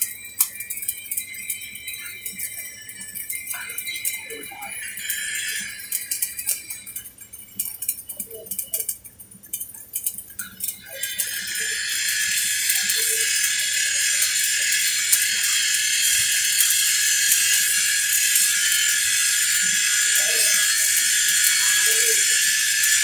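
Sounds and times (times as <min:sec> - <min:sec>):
electric arc welding crackling: 0:00.0 - 0:23.0.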